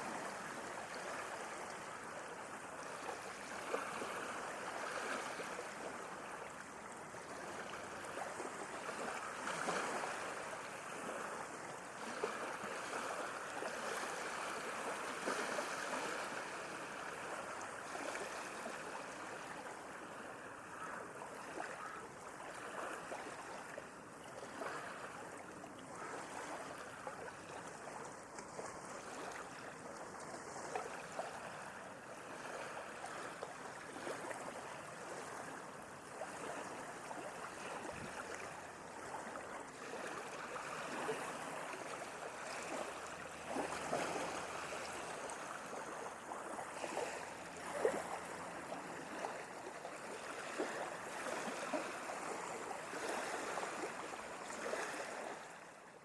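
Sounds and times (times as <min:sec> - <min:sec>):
small waves lapping at shore: 0:00.0 - 0:56.0.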